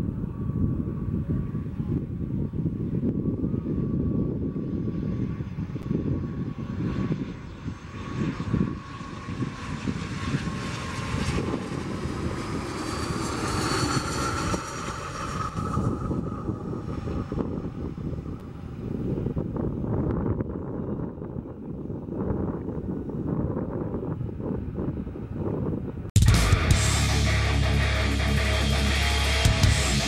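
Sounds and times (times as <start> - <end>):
jet airliner engines: 0.0 - 30.0.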